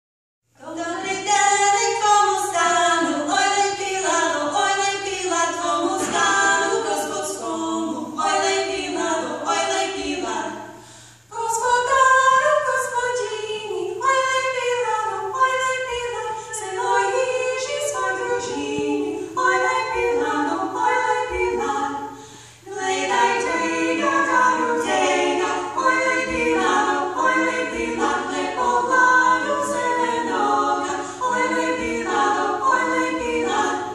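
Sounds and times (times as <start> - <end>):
women singing in harmony: 0.5 - 33.9.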